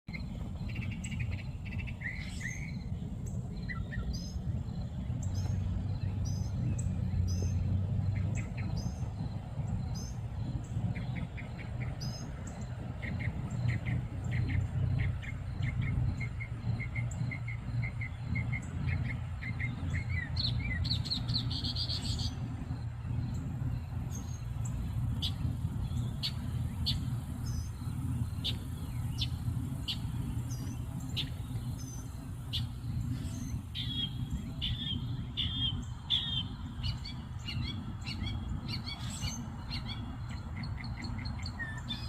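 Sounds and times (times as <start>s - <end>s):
small birds chirping: 0.1s - 42.0s
steady low rumble: 0.1s - 42.0s.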